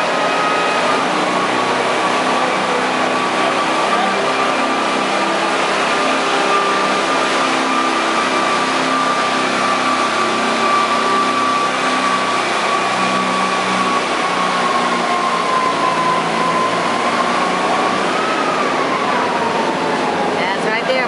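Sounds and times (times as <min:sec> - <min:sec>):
riding lawn mower engine running: 0:00.0 - 0:20.6.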